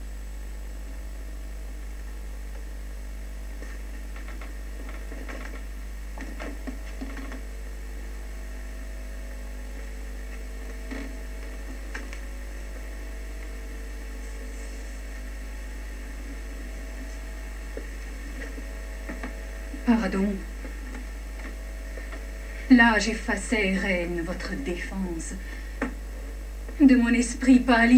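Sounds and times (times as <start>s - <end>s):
electrical mains hum: 0.0s - 27.9s.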